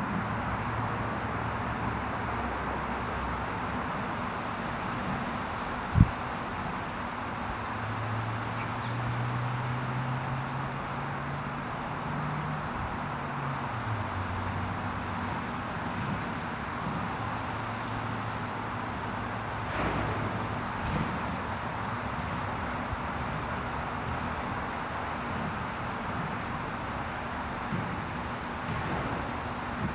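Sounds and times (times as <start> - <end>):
distant road traffic hiss: 0.0 - 29.9
low engine hum: 0.0 - 29.9.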